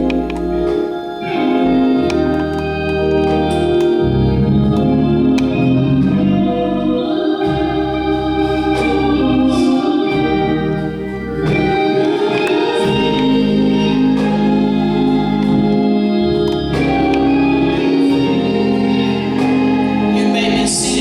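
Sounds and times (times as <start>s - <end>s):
organ chords: 0.0s - 21.0s.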